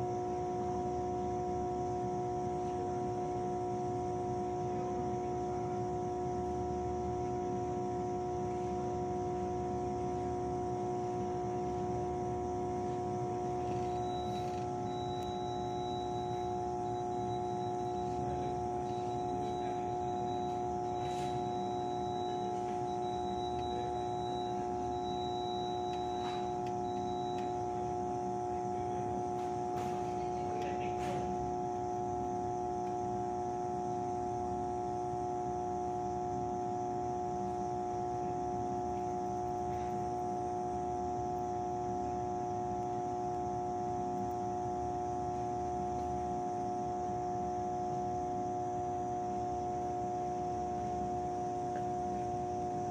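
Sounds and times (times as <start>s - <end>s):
transformer electrical hum: 0.0s - 52.9s.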